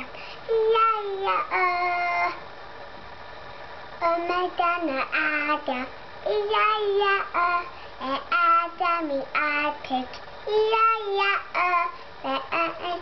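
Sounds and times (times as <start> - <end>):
young boy singing: 0.0 - 2.4, 4.0 - 13.0.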